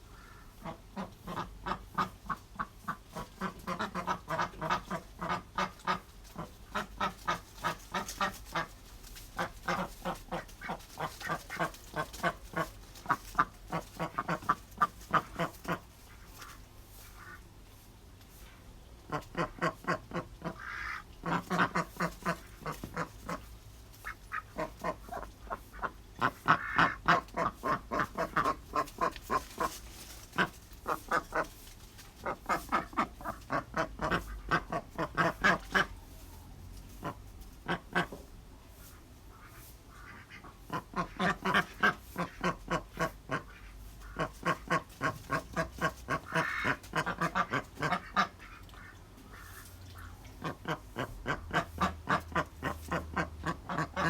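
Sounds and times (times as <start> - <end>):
ducks quacking: 0.0 - 17.8, 19.0 - 54.0.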